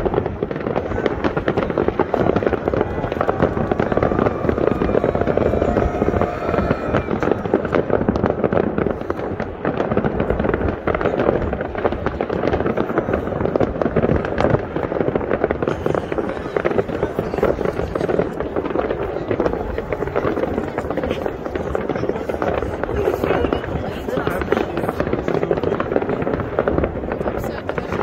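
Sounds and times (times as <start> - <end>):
distant fireworks crackling: 0.0 - 28.0.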